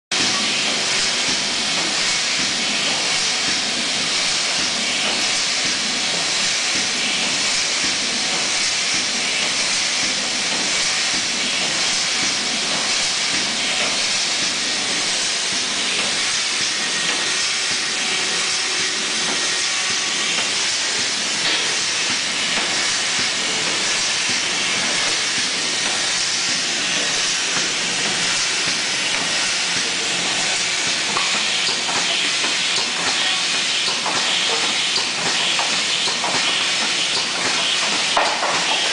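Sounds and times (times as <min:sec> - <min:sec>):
machine hissing: 0:00.2 - 0:38.9.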